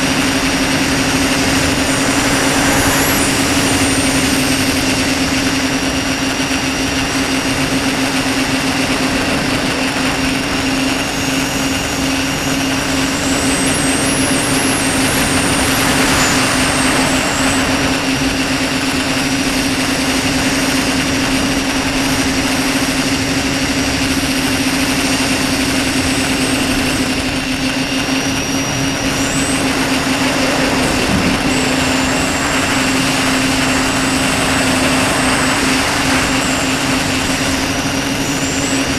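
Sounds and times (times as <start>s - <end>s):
electric motors and propellers buzzing: 0.0s - 38.9s
high whine sliding in pitch: 0.0s - 38.9s.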